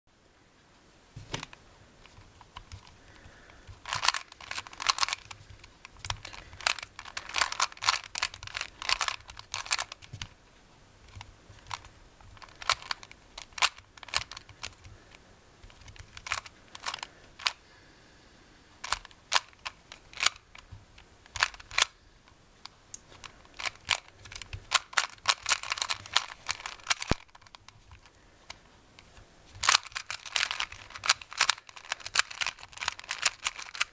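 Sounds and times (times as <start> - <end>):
plastic puzzle cube clicking: 1.3 - 10.3, 11.0 - 17.6, 18.8 - 22.0, 23.0 - 33.9.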